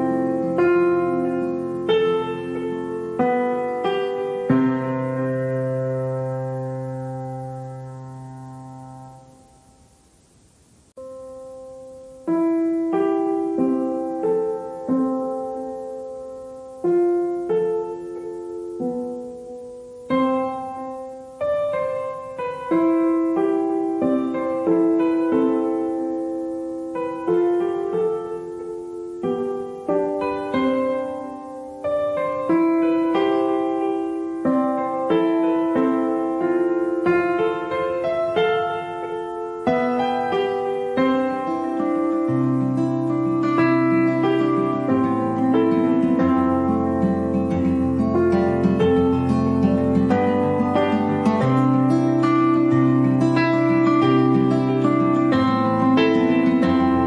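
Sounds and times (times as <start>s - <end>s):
slow gentle piano notes: 0.0s - 57.0s.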